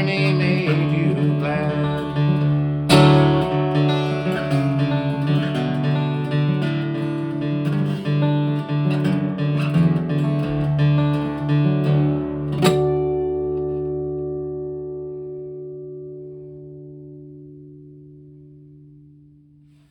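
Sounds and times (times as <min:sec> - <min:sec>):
acoustic guitar strumming chords: 0:00.0 - 0:19.9.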